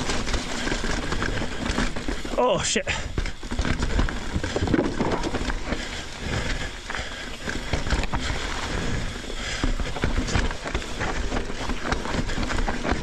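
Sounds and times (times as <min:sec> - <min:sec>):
bike knocking and rattling: 0:00.0 - 0:13.0
tyre rumble: 0:00.0 - 0:13.0.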